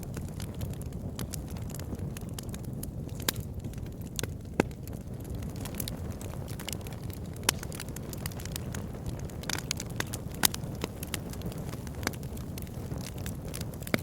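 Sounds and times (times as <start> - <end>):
burning wood crackling and popping: 0.0 - 14.0
flames rumbling: 0.0 - 14.0.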